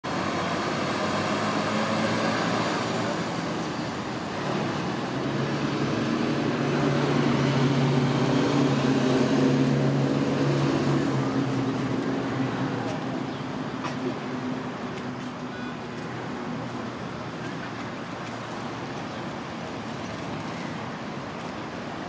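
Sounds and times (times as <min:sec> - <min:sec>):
vehicle engine hum: 0:00.0 - 0:22.0
water rushing over concrete: 0:00.0 - 0:22.0.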